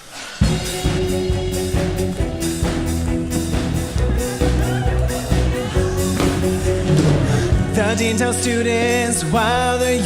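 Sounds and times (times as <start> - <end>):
live band pop music: 0.4 - 10.0.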